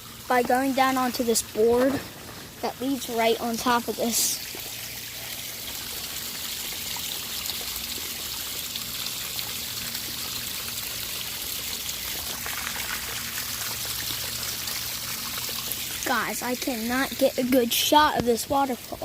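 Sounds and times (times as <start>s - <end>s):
small waterfall splashing: 0.0s - 19.0s.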